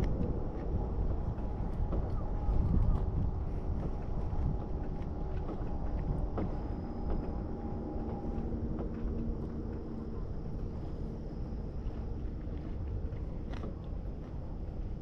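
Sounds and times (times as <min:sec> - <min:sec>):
faint steady hum: 0:00.0 - 0:15.0
wind rumbling on microphone: 0:00.0 - 0:15.0.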